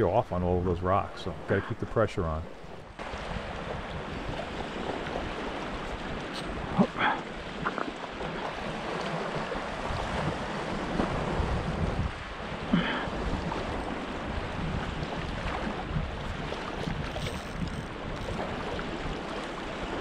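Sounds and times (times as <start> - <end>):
wind buffeting microphone: 0.0 - 20.0
small waves washing on rocks: 3.0 - 20.0.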